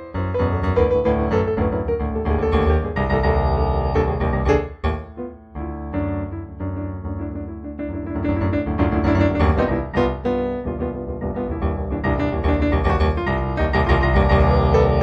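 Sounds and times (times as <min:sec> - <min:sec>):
improvised piano piece: 0:00.0 - 0:15.0.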